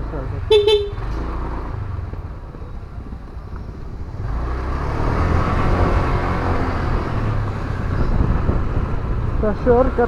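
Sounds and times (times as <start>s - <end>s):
road rumble: 0.0s - 10.0s
scooter engine running: 0.0s - 10.0s
wind: 0.0s - 10.0s.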